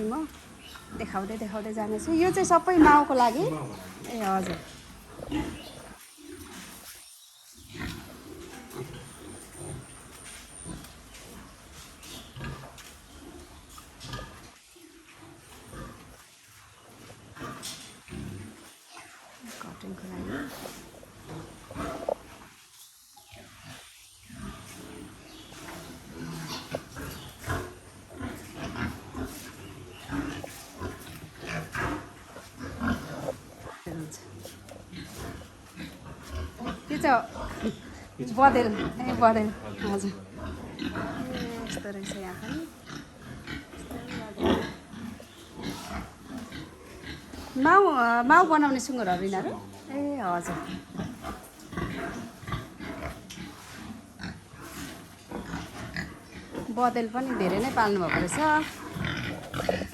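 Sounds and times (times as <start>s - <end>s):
pigs grunting: 0.0s - 7.0s, 7.6s - 22.6s, 23.3s - 59.9s.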